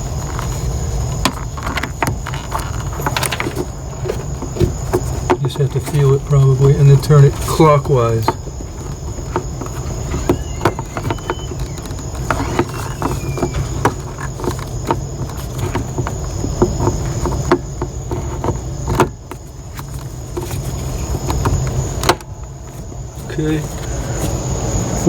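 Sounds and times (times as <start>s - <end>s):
plastic clicks and scrapes: 0.1s - 24.6s.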